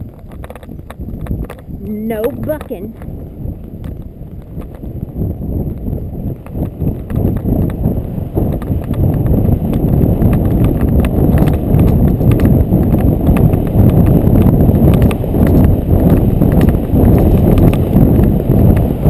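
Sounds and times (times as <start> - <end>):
horse hoofbeats on dirt: 0.0 - 19.0.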